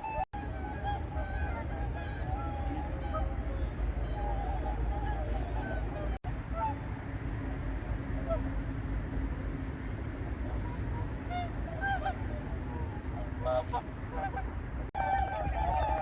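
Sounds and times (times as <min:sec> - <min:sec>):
steady low rumble: 0:00.0 - 0:16.0
swans honking: 0:00.0 - 0:16.0.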